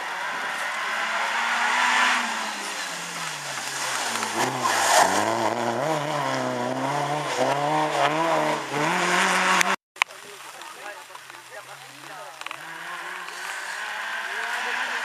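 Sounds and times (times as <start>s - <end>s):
rally car engine revving: 0.0s - 9.8s, 11.1s - 15.0s.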